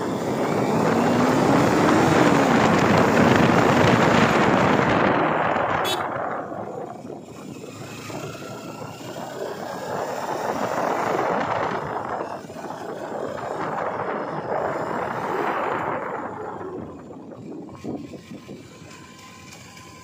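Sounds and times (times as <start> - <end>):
wind rushing over microphone: 0.0 - 19.1
motorcycle engine running: 0.0 - 20.0.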